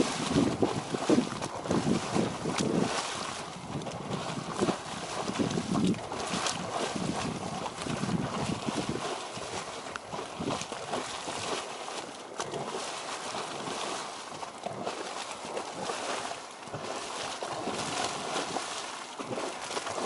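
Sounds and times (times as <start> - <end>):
geyser water splashing: 0.0 - 20.0.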